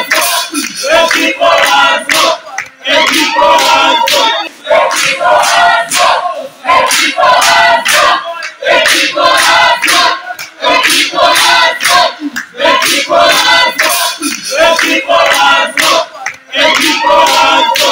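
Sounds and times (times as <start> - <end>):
group singing and shouting: 0.0 - 17.9.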